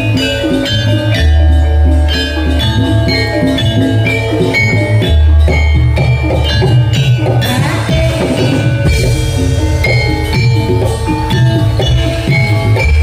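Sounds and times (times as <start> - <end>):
metallophone melody: 0.0 - 13.0.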